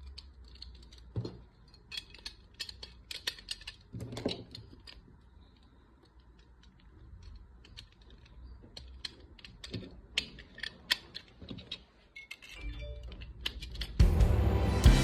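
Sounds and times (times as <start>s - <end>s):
toy pistol parts clicking: 0.0s - 14.0s.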